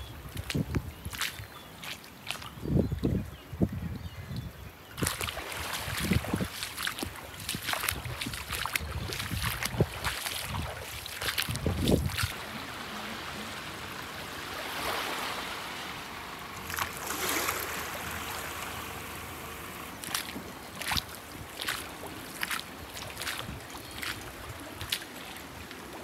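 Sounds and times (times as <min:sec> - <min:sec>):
moving water: 0:00.0 - 0:26.0
wind: 0:00.0 - 0:26.0
boots splashing through water: 0:00.1 - 0:02.7, 0:05.0 - 0:15.1, 0:16.6 - 0:26.0.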